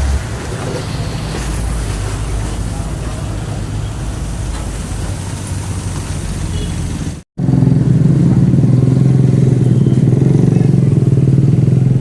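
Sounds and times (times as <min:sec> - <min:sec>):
engine hum close by: 0:00.0 - 0:12.0
vehicle engines in traffic: 0:00.0 - 0:12.0.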